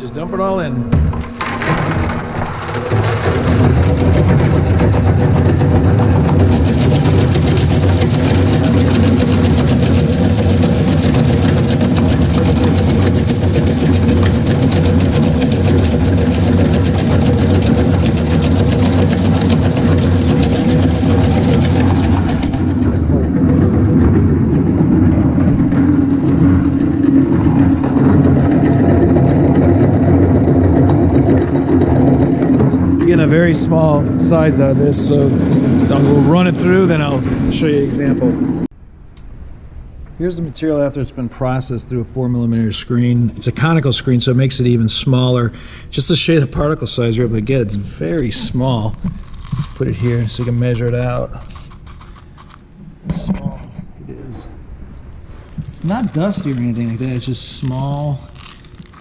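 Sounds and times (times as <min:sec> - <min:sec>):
geared motor hum: 0:00.0 - 0:38.9, 0:40.8 - 0:59.0.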